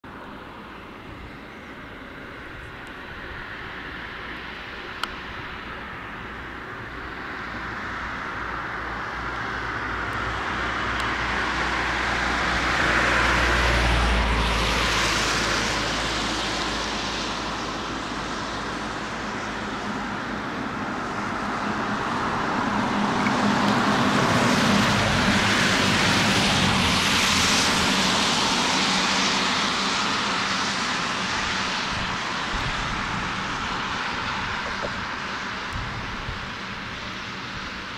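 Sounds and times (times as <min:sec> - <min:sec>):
aircraft engine rush: 0:00.0 - 0:37.9
low propeller hum: 0:00.0 - 0:37.9.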